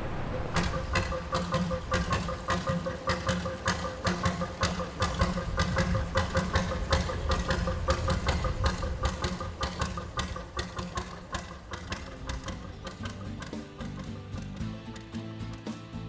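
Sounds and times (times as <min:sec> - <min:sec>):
boat diesel engine chugging: 0:00.4 - 0:15.1.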